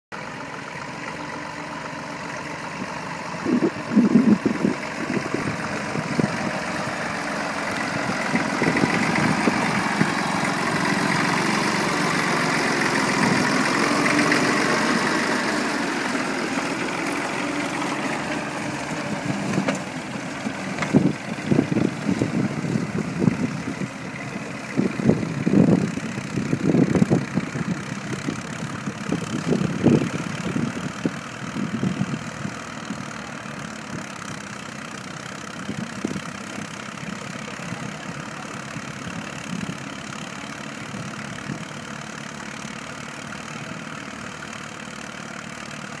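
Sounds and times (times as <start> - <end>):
tractor engine running: 0.1 - 46.0.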